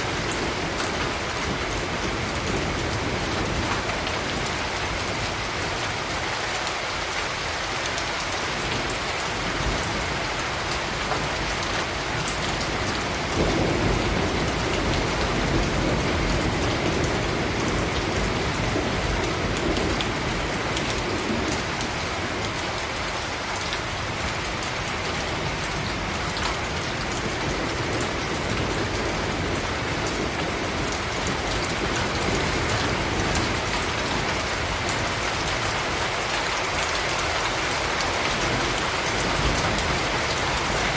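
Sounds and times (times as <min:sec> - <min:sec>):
rain on hard surfaces: 0:00.0 - 0:40.9.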